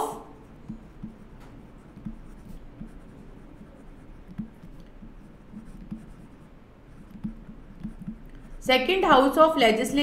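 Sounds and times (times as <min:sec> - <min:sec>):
stylus scratching on tablet: 0:00.4 - 0:09.6.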